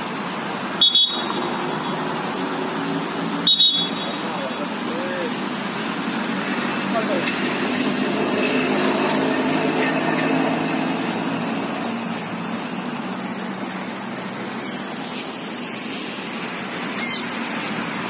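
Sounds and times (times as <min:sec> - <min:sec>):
city traffic noise: 0:00.0 - 0:18.0
vehicle engine hum: 0:00.0 - 0:18.0.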